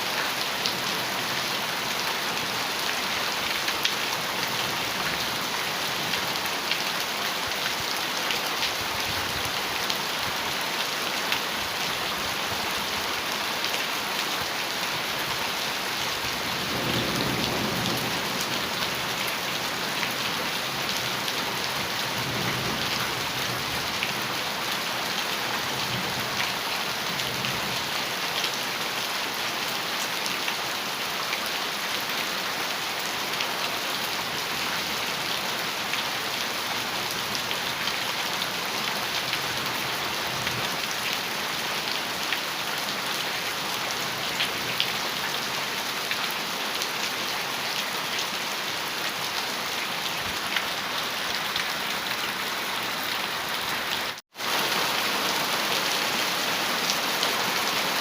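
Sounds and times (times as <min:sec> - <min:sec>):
heavy rain on metal roof: 0:00.0 - 0:58.0.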